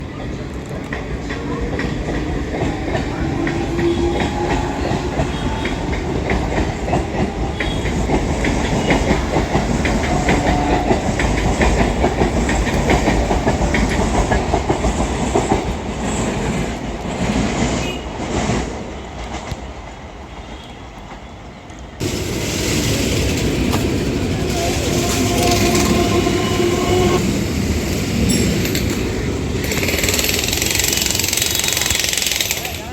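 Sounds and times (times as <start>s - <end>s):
train wheels clattering on rails: 0.0s - 32.9s.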